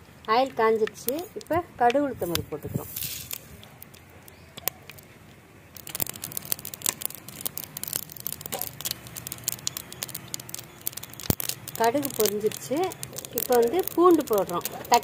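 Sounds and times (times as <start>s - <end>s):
seeds crackling and popping: 0.0s - 15.0s
seeds sizzling in hot oil: 0.2s - 15.0s.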